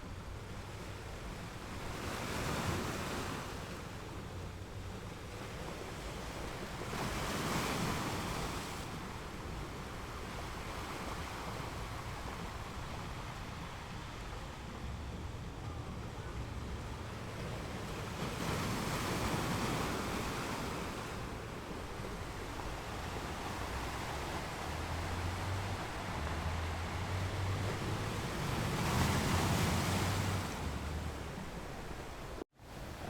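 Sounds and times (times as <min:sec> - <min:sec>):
ocean surf washing onto beach: 0:01.5 - 0:33.0.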